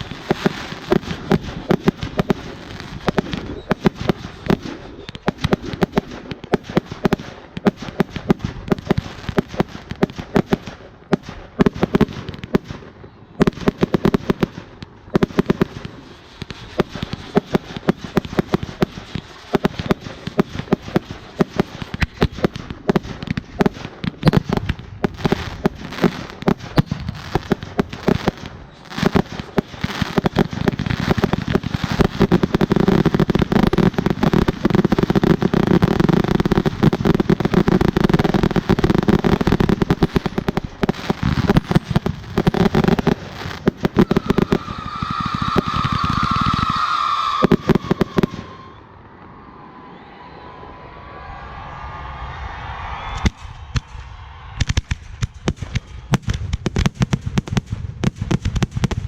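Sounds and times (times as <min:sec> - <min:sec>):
fireworks fountain crackling: 0:00.0 - 0:49.5, 0:53.0 - 0:59.0.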